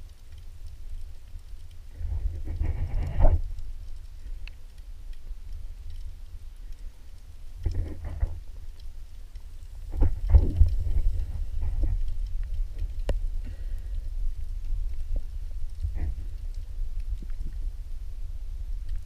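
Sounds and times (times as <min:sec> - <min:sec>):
muffled underwater water sloshing: 0:00.0 - 0:19.0.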